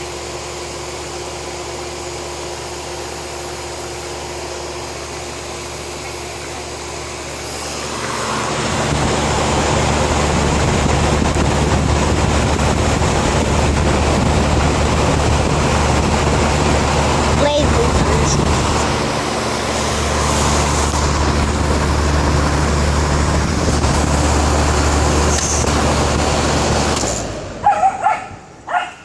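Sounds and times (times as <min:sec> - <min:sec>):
air conditioner hum: 0:00.0 - 0:29.0
loud fan noise: 0:00.0 - 0:29.0.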